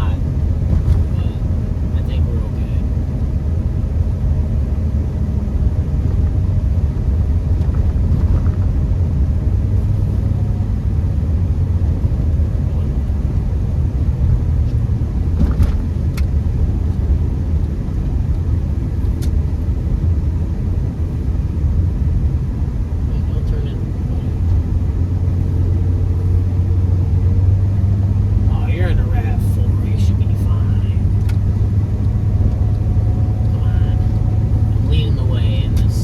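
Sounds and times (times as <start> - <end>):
car engine and tyre noise: 0.0 - 36.0.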